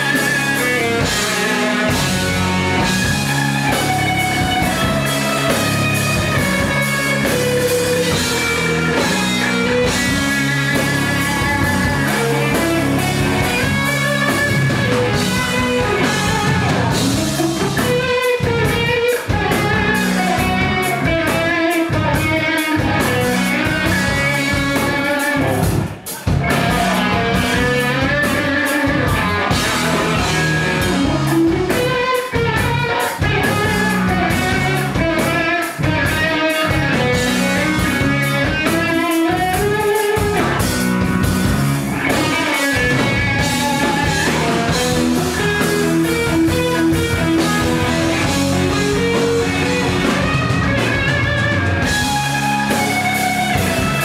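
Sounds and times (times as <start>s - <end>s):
guitar-led background music: 0.0s - 54.0s.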